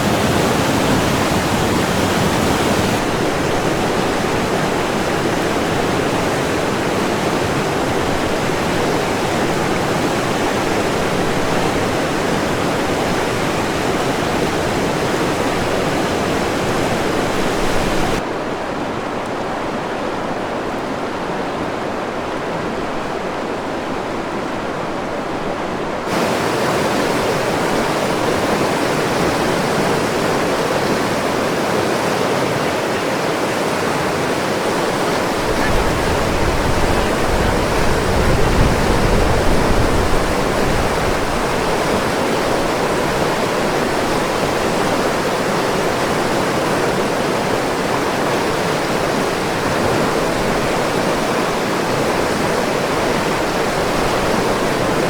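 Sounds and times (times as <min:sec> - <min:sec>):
whitewater roaring: 0:00.0 - 0:55.0.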